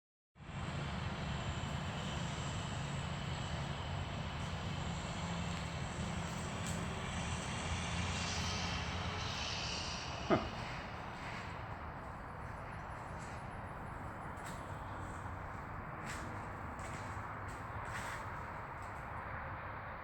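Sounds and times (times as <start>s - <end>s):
engine drone: 0.4s - 20.0s.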